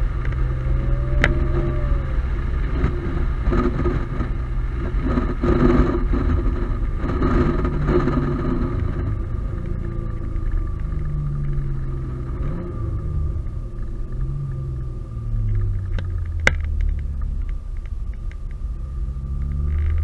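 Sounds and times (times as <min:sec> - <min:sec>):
car engine while driving: 0:00.0 - 0:20.0
road noise: 0:00.0 - 0:20.0.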